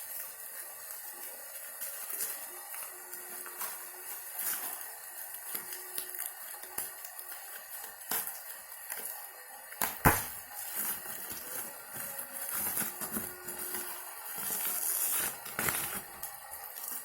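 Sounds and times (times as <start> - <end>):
packaging crinkling: 1.1 - 17.0.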